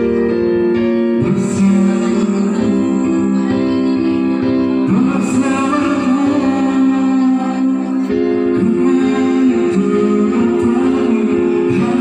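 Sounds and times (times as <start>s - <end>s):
man vocalizing guitar melody: 0.0s - 12.0s.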